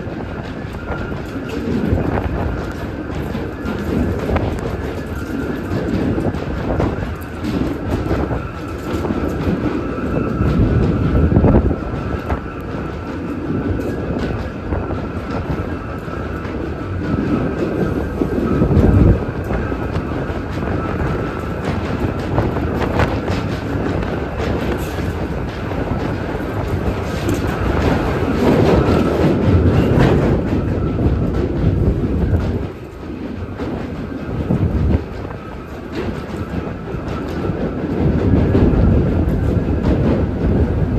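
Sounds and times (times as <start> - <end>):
subway train rumble: 0.0 - 40.9.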